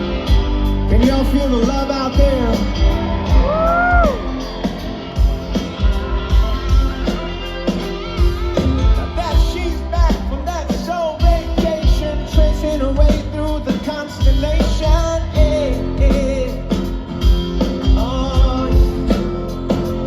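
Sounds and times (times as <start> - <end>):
drum beat: 0.0 - 20.0
rock band playing: 0.0 - 20.0.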